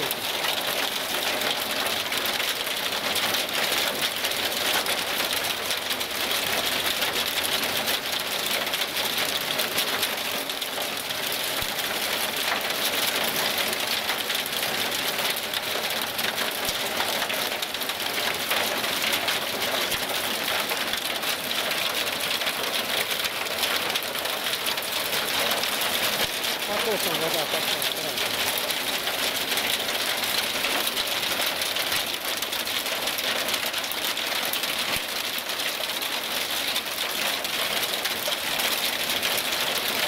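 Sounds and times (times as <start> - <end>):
heavy rain and hail on pavement: 0.0 - 40.0.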